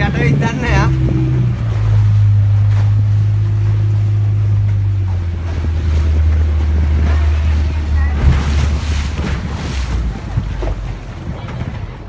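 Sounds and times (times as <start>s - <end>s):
boat engine running: 0.0s - 12.0s
choppy water rushing: 0.0s - 12.0s
wind on microphone: 0.0s - 12.0s.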